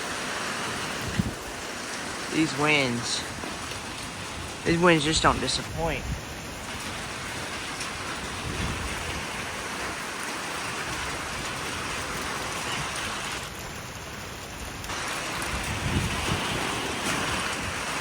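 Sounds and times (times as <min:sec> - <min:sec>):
wind rushing through trees: 0:00.0 - 0:18.0.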